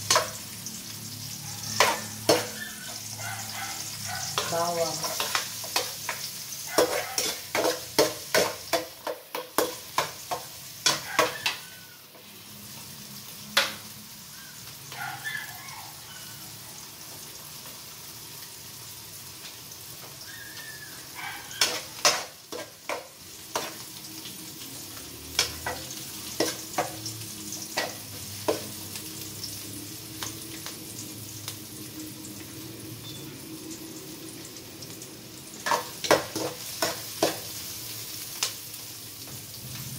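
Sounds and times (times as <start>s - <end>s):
onion sizzling in hot oil: 0.0s - 39.9s.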